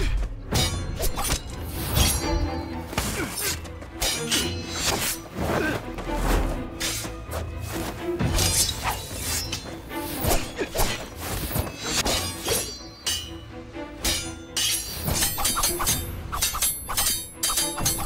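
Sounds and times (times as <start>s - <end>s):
action background music: 0.0s - 18.0s.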